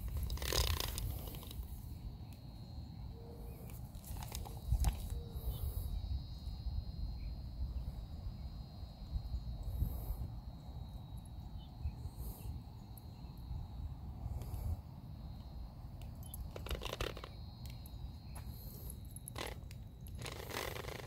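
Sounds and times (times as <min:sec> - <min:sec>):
crickets chirping: 0:00.0 - 0:21.0
low outdoor noise: 0:00.0 - 0:21.0.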